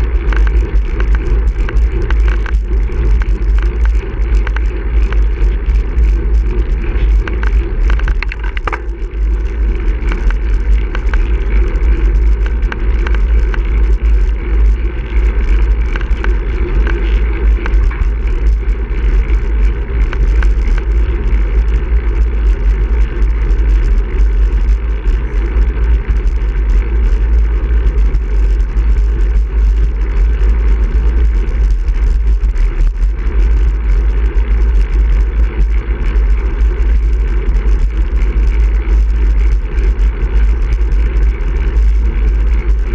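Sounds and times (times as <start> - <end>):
tyres humming on asphalt: 0.0 - 42.9.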